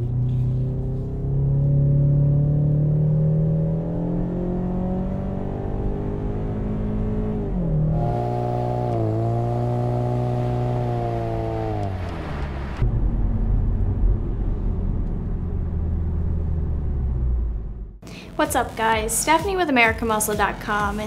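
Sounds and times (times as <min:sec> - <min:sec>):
car engine revving: 0:00.0 - 0:18.7.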